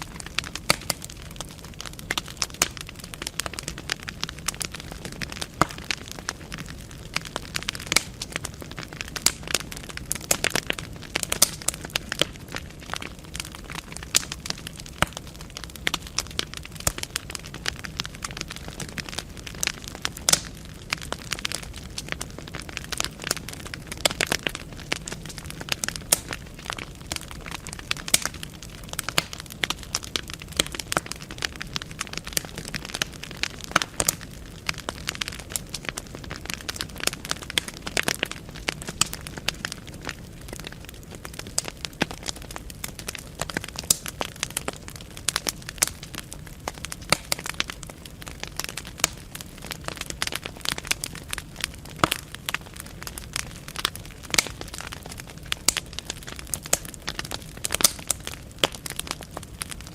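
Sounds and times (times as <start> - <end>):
logs crackling and popping: 0.0 - 59.9.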